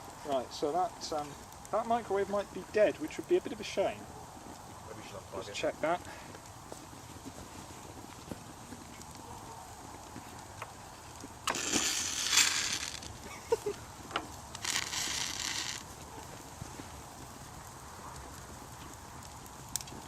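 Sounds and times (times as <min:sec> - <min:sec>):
matches flaring with a hiss: 0:00.0 - 0:20.0
sharp crackles: 0:00.0 - 0:20.0.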